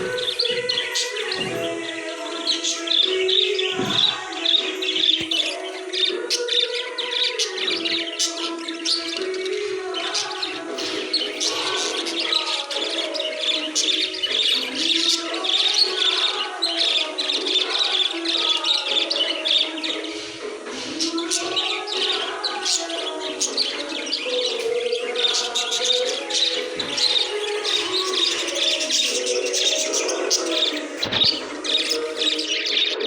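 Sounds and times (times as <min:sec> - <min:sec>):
background music: 0:00.0 - 0:33.0
small birds chirping: 0:00.0 - 0:33.0.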